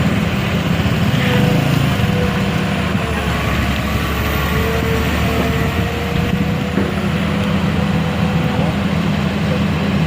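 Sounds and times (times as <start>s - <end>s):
truck engine running loudly: 0.0s - 10.0s.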